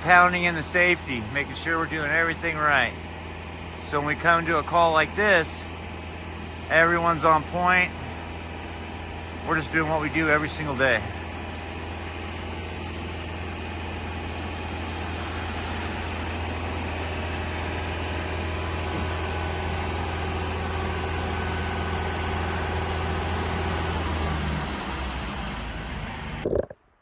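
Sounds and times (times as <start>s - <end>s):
engine humming: 0.0s - 26.8s.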